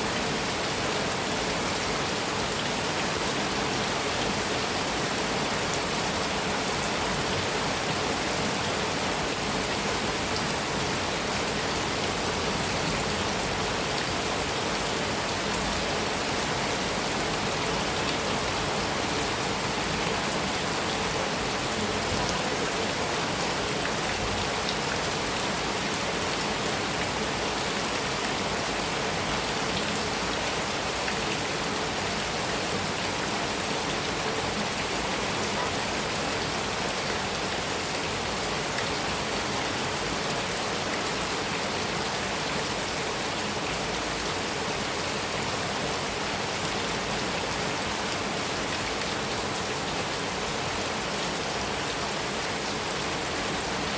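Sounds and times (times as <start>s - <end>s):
heavy rain on a metal roof: 0.0s - 53.9s.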